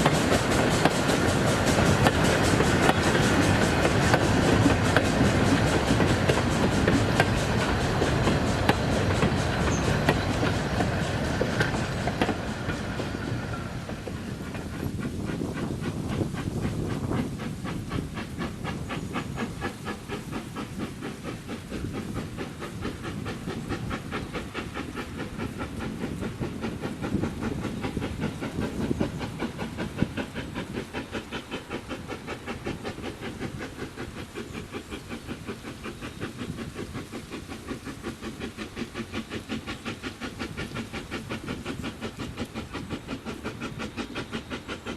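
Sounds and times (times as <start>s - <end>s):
steam hiss: 0.0s - 44.9s
steam locomotive exhaust beat: 0.0s - 44.9s
train rumble: 0.0s - 44.9s.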